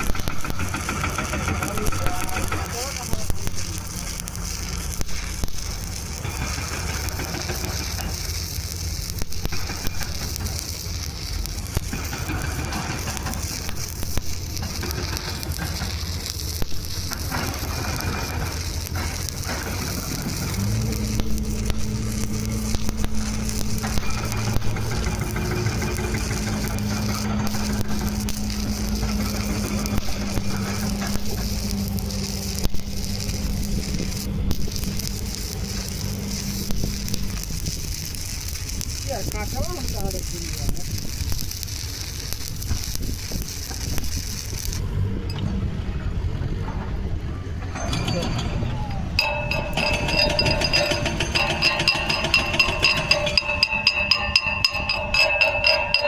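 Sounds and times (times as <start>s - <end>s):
welding arc crackling: 0.0s - 45.4s, 47.8s - 56.0s
welder electrical hum: 0.0s - 45.8s, 47.8s - 56.0s.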